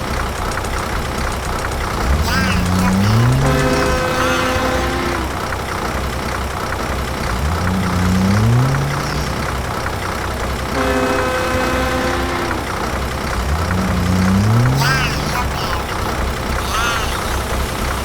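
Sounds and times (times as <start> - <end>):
pitched drone: 0.0 - 5.7, 7.2 - 18.0
motor running: 0.0 - 18.0.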